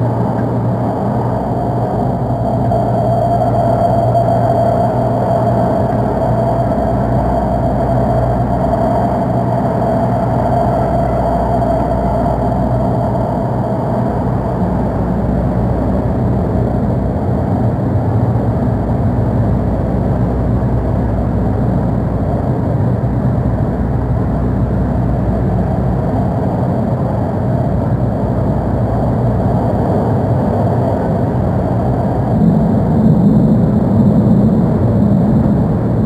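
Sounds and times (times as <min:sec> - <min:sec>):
high whine: 0:00.0 - 0:36.0
low motor hum: 0:00.0 - 0:36.0.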